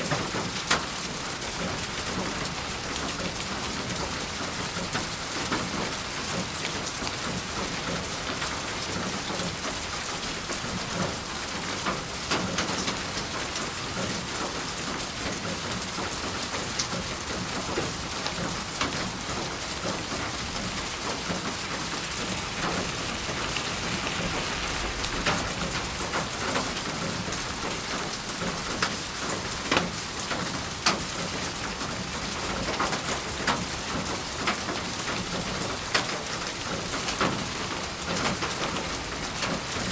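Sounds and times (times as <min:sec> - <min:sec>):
raindrops tapping surface: 0:00.0 - 0:39.9
steady rain falling: 0:00.0 - 0:39.9.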